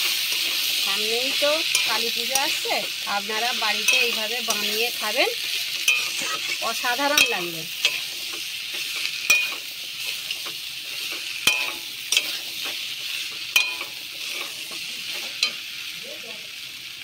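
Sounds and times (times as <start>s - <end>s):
metal spatula stirring: 0.0s - 15.6s
food sizzling in hot oil: 0.0s - 17.0s
spatula clanging on pan: 1.2s - 3.0s, 3.6s - 15.7s.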